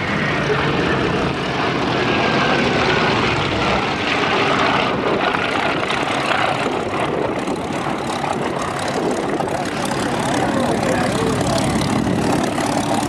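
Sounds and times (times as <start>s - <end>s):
propeller aircraft engine running: 0.0s - 13.0s.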